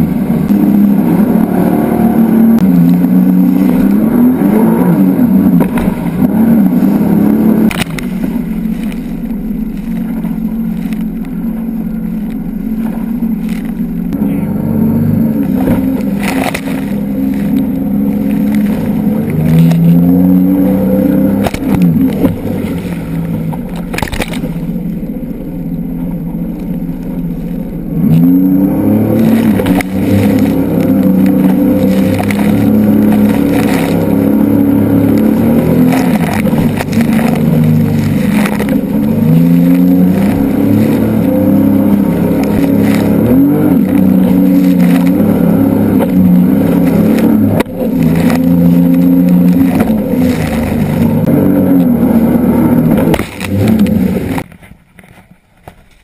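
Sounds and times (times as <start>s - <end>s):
jet ski engine running: 0.0s - 56.0s
water splashing against hull: 2.4s - 14.1s, 15.3s - 28.3s, 29.0s - 56.0s.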